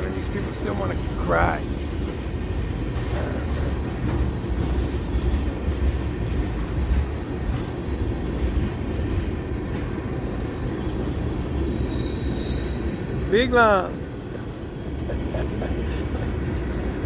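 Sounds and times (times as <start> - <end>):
freight train rolling past: 0.0 - 17.0
light clicks of train wheels: 0.0 - 17.0.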